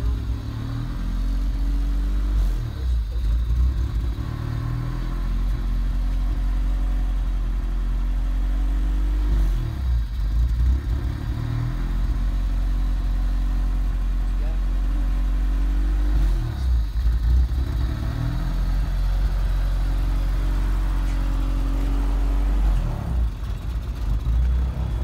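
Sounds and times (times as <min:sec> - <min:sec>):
car exhaust idling: 0:00.0 - 0:25.0.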